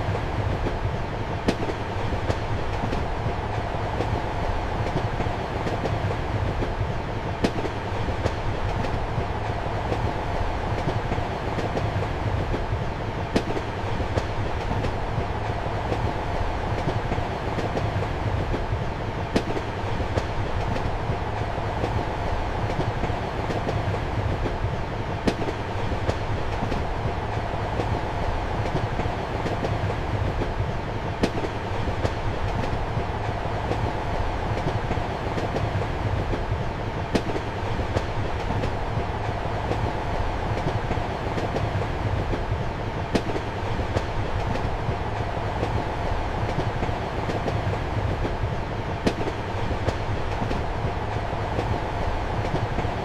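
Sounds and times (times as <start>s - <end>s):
train carriage rumble and hum: 0.0s - 53.0s
wheels clicking over rail joints: 4.8s - 53.0s.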